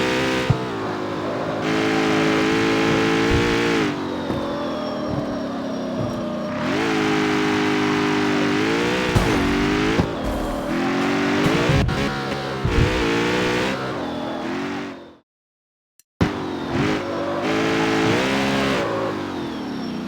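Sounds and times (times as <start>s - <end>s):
car engine accelerating through gears: 0.0s - 15.2s, 16.2s - 20.0s.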